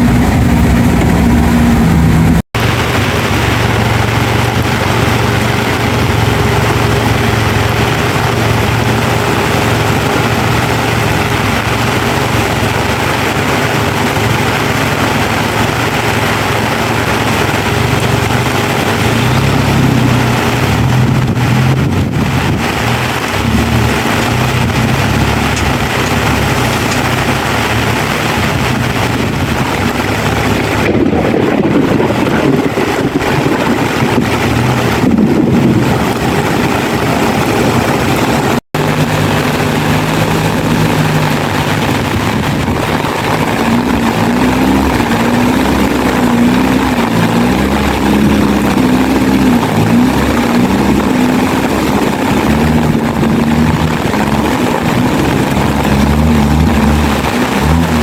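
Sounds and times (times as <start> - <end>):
car engine running: 0.0 - 58.0
rain hiss: 0.0 - 58.0.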